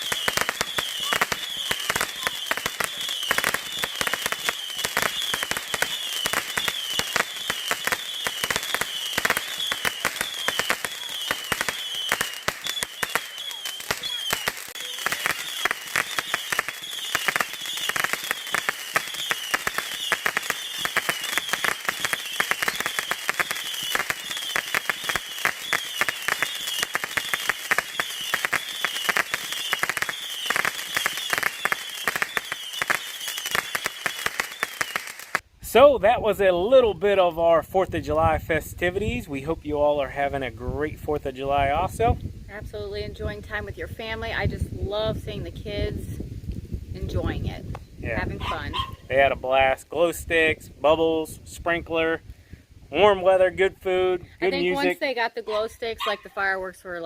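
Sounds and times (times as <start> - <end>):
fireworks crackling: 0.0 - 57.0.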